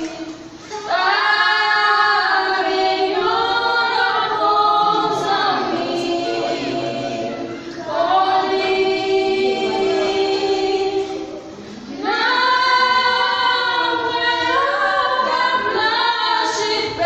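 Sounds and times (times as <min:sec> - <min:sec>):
women singing in harmony: 0:00.0 - 0:17.0.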